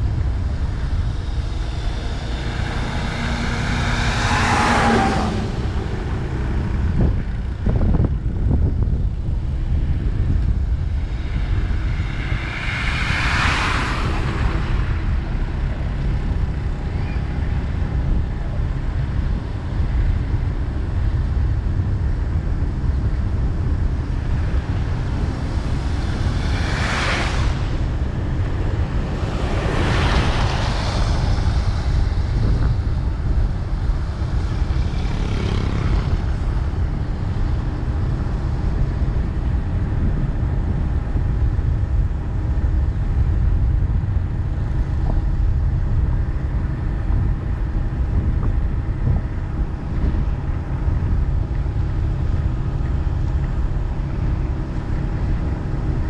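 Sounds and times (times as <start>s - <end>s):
road and wind rumble: 0.0s - 56.0s
vehicles passing by: 0.0s - 56.0s.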